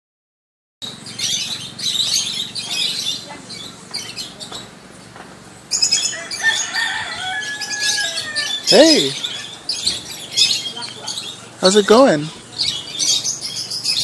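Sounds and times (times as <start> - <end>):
birds chirping: 0.8 - 14.0.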